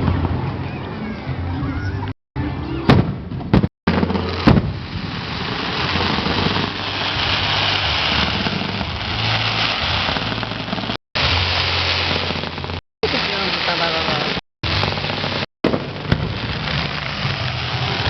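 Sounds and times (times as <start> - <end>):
fireworks bangs: 2.8 - 18.0.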